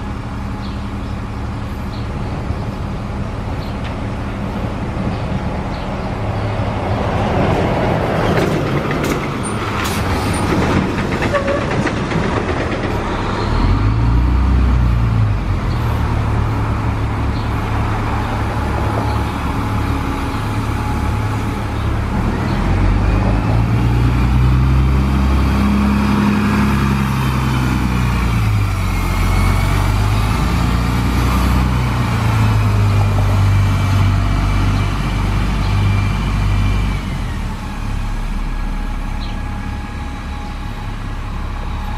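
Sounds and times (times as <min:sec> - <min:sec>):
bus diesel engine pulling away: 0:00.0 - 0:41.9.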